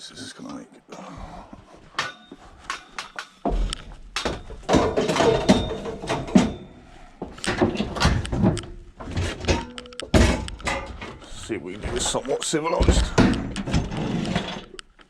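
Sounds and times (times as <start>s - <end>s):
metal bed frames clanging: 1.9s - 14.8s.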